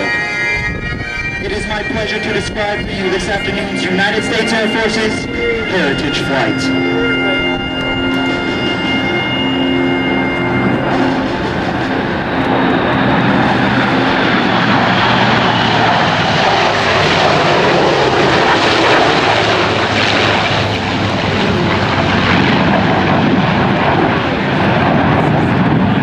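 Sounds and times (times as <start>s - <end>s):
military aircraft flying past: 0.0s - 26.0s.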